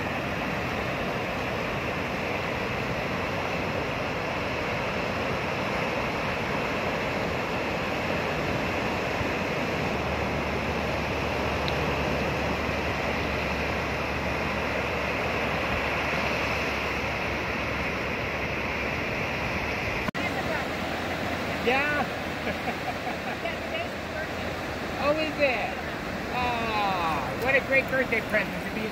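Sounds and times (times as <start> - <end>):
wind rumble on microphone: 0.0 - 27.8
surf breaking on beach: 0.0 - 28.9.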